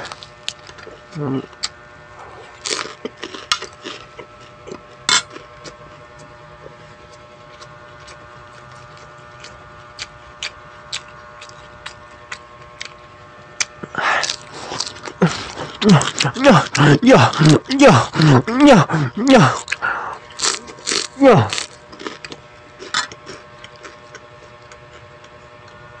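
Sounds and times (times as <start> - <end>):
crunchy bite into lettuce: 0.0 - 13.0, 13.6 - 25.7
steady faint hum: 0.0 - 26.0.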